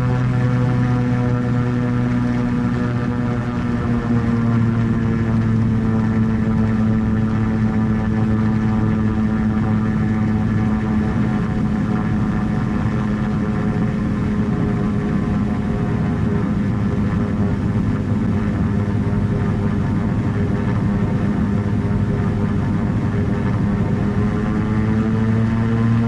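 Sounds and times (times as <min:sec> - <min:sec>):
propeller engine running: 0:00.0 - 0:26.0.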